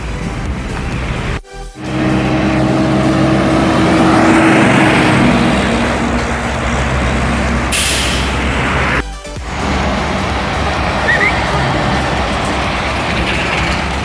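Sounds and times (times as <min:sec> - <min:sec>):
truck engine running: 0:00.0 - 0:14.0
air brakes hissing: 0:00.1 - 0:14.0.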